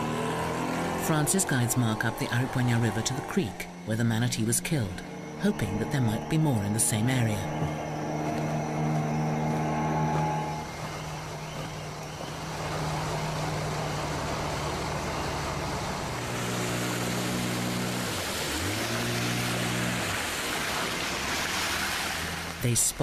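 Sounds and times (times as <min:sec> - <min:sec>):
outboard motor running: 0:00.0 - 0:22.7
water hissing: 0:00.0 - 0:23.0
wind: 0:00.0 - 0:23.0.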